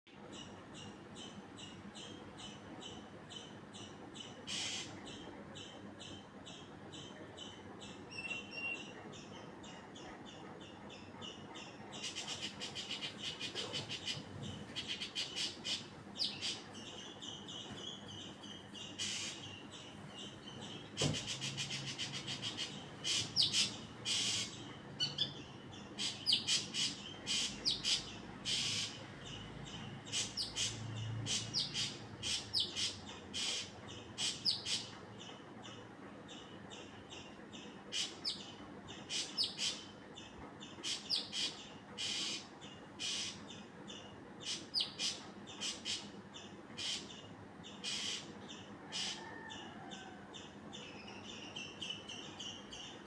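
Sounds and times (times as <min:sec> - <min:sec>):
small bird chirping: 0:00.2 - 0:53.0.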